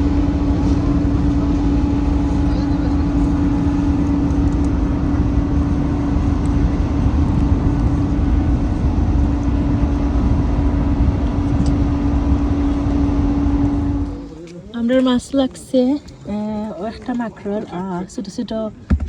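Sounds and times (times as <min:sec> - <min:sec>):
wind rumble on microphone: 0:00.0 - 0:15.4
ferry engines droning: 0:00.0 - 0:18.9.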